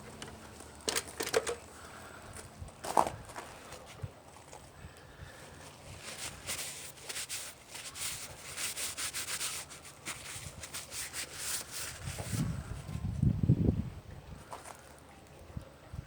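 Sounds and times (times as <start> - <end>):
scraping in loose ground: 0.0 - 13.2.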